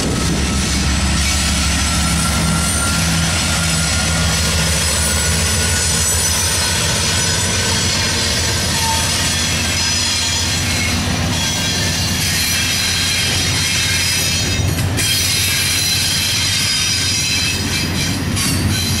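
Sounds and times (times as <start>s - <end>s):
high-pitched wheel squeal: 0.0s - 19.0s
train wheels rumbling on rail: 0.0s - 19.0s.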